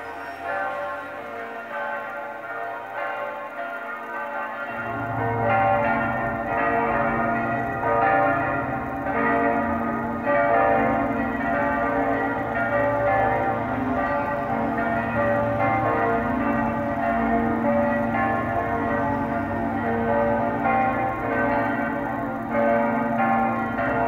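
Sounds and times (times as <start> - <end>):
church bells pealing: 0.0 - 24.0.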